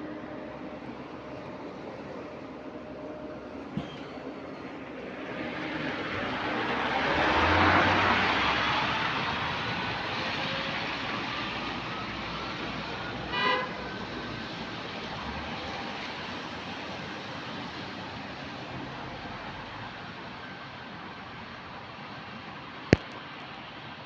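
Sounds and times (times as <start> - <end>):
road and tyre noise: 0.0 - 24.0.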